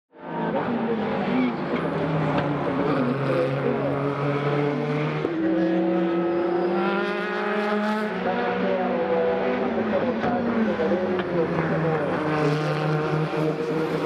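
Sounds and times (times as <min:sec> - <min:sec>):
race car engines whining: 0:00.2 - 0:14.0.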